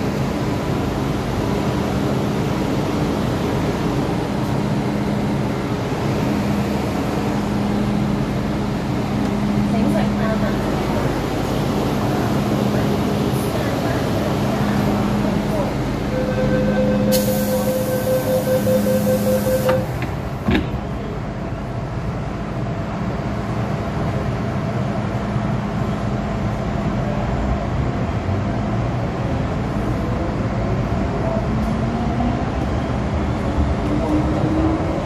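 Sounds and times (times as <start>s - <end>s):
train running noise: 0.0s - 35.0s.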